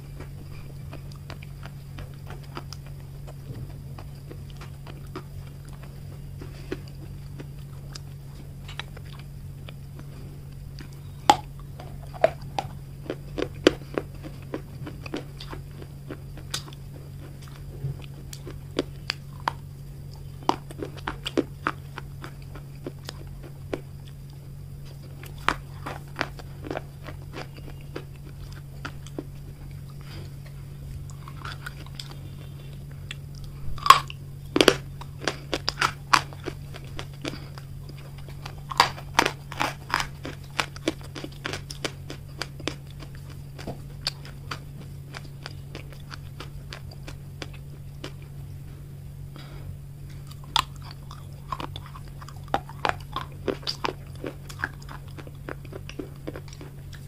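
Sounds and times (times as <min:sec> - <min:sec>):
clay crunching being chewed: 0:00.0 - 0:57.0.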